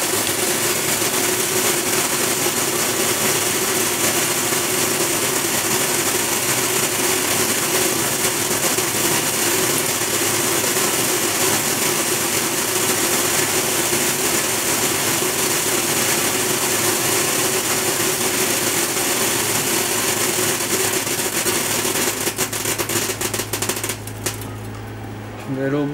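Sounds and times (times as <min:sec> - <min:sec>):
granules pouring down chutes: 0:00.0 - 0:24.9
machine hum: 0:00.0 - 0:25.9.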